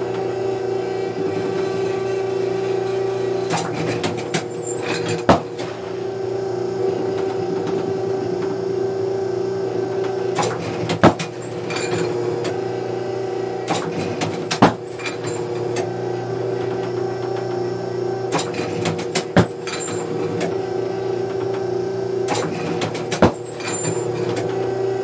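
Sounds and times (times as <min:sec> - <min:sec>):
clay target thrower humming: 0:00.0 - 0:25.0.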